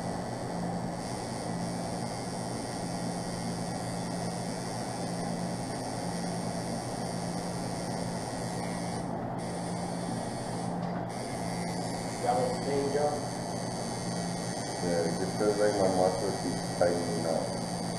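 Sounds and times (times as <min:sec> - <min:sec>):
tattoo machine buzzing: 0:00.0 - 0:17.9.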